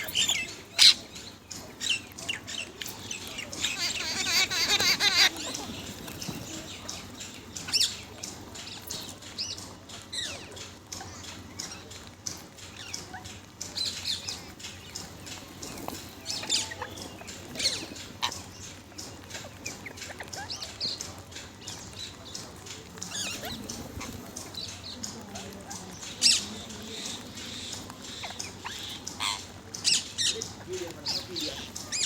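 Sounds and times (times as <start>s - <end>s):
parrots chirping and squawking: 0.0s - 32.0s.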